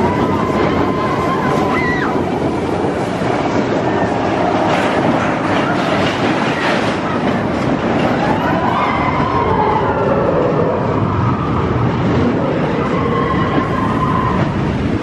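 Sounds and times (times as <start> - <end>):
roller coaster wheels rumbling on rail: 0.0 - 15.0.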